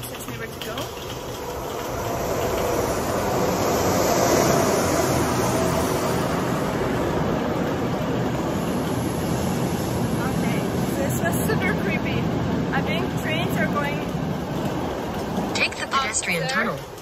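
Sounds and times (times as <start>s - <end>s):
passing train rumbling: 0.0s - 17.0s.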